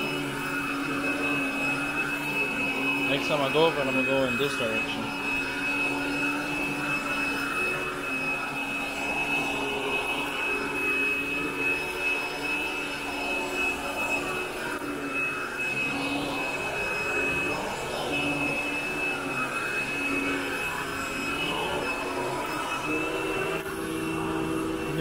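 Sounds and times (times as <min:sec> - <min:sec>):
vacuum cleaner running over carpet: 0:00.0 - 0:25.0.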